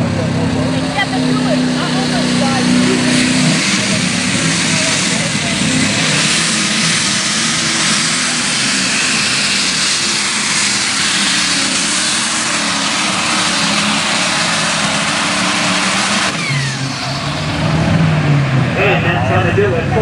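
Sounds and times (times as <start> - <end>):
falling whine: 0.0 - 20.0
tractor engine at full throttle: 0.0 - 20.0.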